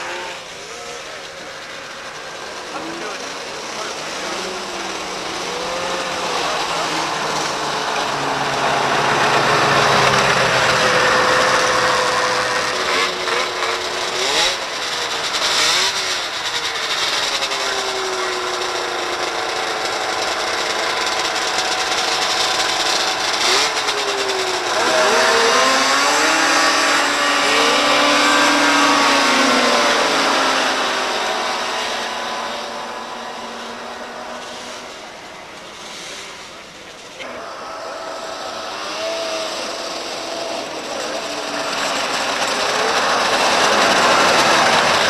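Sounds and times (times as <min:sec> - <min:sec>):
snowmobile engines revving: 0:00.0 - 0:45.0.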